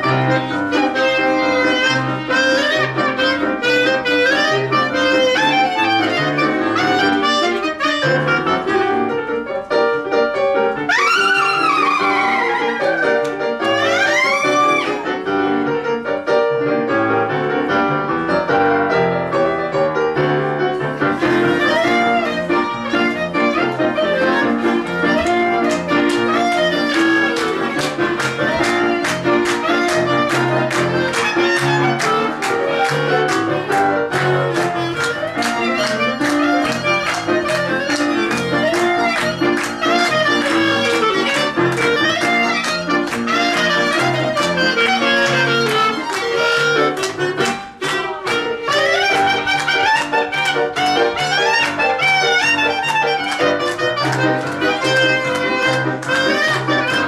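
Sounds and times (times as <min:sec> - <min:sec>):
clarinet melody: 0:00.0 - 0:57.0
keyboard accompaniment: 0:00.0 - 0:57.0
violin melody: 0:00.0 - 0:57.0.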